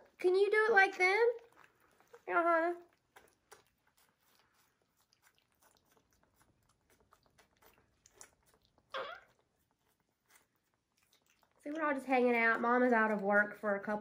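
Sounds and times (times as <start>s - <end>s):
monkeys smacking and sucking: 0.8s - 14.0s.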